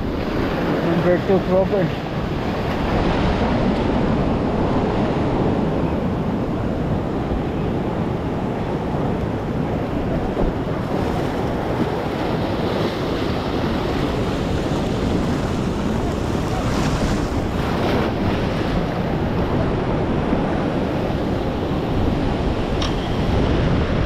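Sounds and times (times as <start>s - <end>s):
heavy surf washing over rocks: 0.0s - 24.0s
wind rumbling on microphone: 0.0s - 24.0s.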